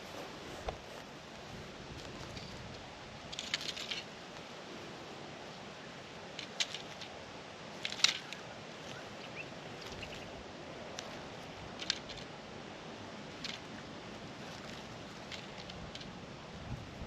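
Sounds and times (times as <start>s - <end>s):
dry hay crackling and rustling: 0.0s - 17.0s.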